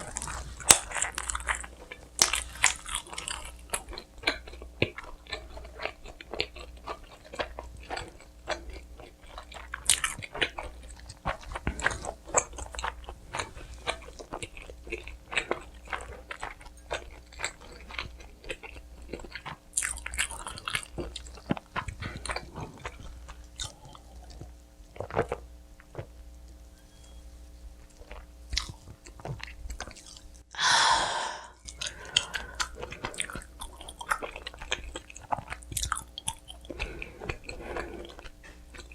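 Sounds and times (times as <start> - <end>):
chewing pizza: 0.0 - 26.8, 27.5 - 30.5, 31.6 - 38.9.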